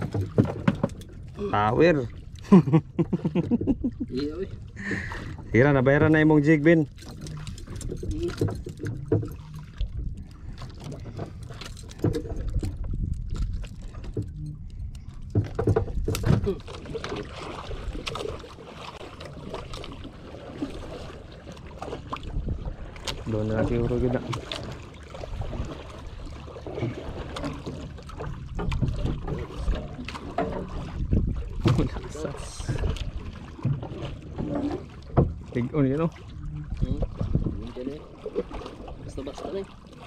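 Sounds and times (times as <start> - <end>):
water lapping against boat hull: 0.0 - 40.0
wind: 0.0 - 40.0.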